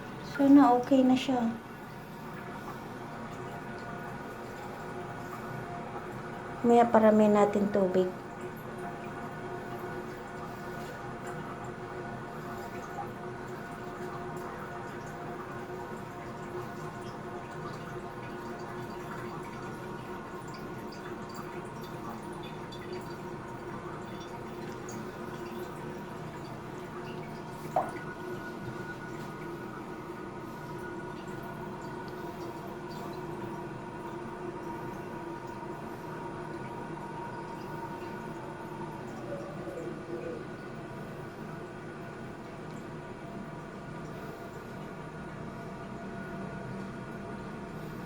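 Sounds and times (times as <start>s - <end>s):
fill valve whine: 0.0s - 48.0s
toilet tank refilling with hiss: 8.1s - 48.0s.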